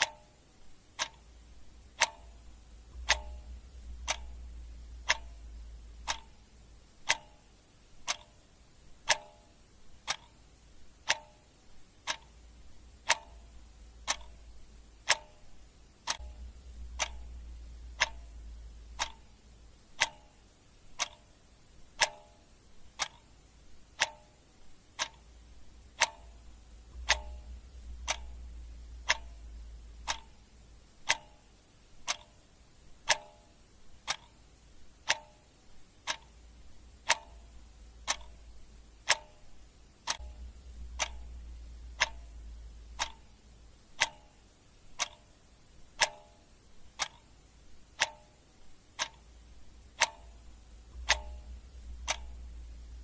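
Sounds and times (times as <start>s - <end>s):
clock ticking: 0.0s - 53.0s.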